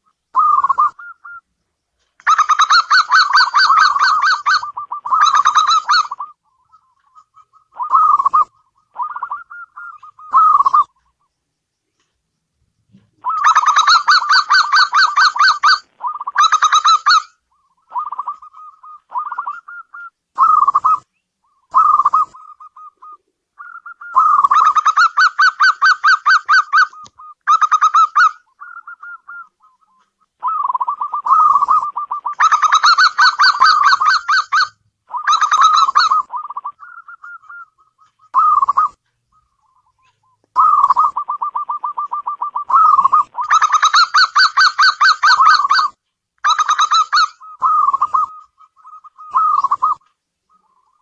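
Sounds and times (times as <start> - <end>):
dove cooing: 0.0 - 1.4, 2.2 - 11.2, 12.9 - 51.0.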